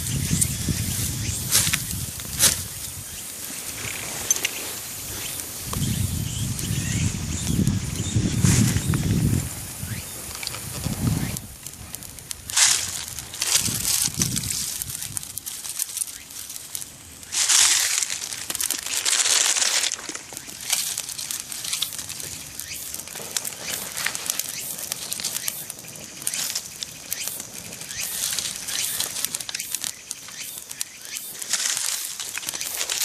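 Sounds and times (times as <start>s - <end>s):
bonfire crackling: 0.0s - 33.0s
rustling swells: 0.0s - 33.0s.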